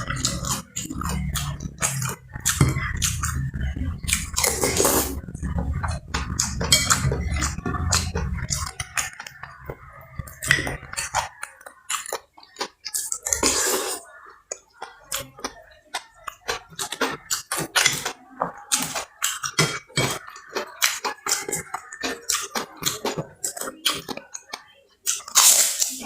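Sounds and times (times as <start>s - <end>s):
chewing and slurping: 0.0s - 26.0s.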